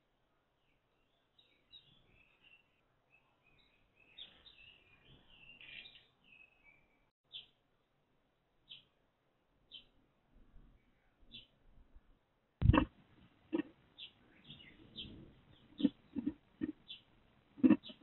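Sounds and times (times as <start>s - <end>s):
sparrows chirping faintly: 0.0s - 7.9s, 8.6s - 9.0s, 9.6s - 11.8s, 12.6s - 18.0s.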